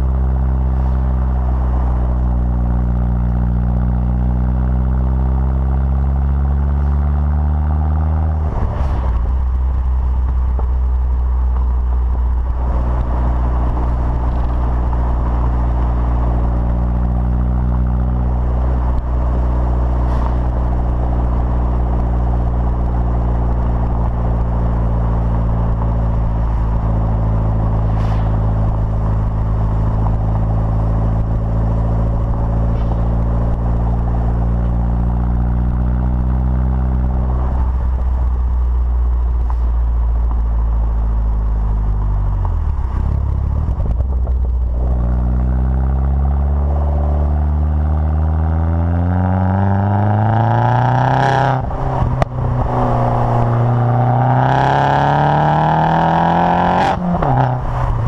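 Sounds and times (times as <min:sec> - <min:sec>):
car exhaust while driving: 0:00.0 - 0:58.0.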